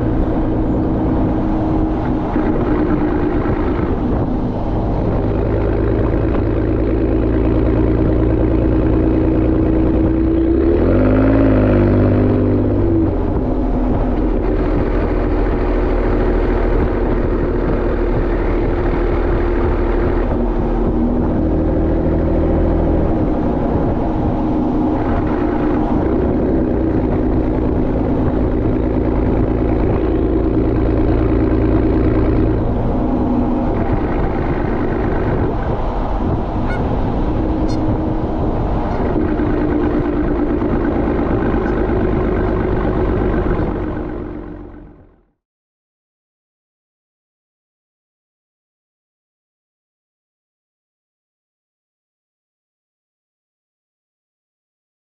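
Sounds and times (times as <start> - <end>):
car exhaust cruising: 0.0 - 45.4.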